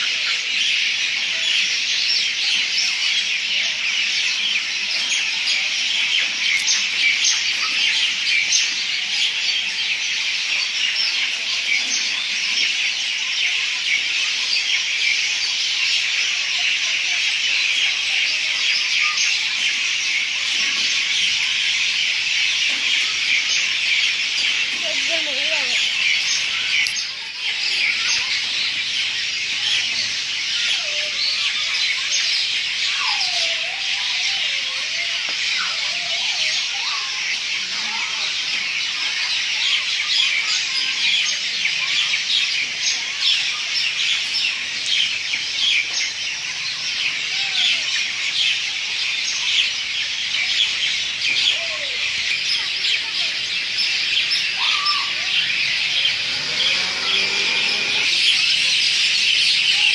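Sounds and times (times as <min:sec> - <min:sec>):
chorus of birds chirping: 0:00.0 - 0:59.9.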